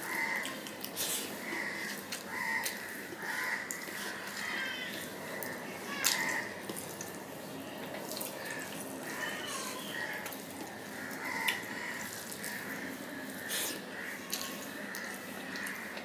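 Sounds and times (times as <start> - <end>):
hand squishing puffed rice: 0.0 - 16.0.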